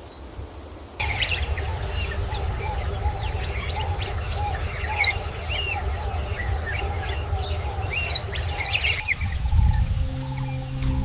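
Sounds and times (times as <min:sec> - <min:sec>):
birds chirping: 0:01.0 - 0:11.0
low bird warbling: 0:01.0 - 0:11.0
steady low rumble: 0:01.0 - 0:11.0.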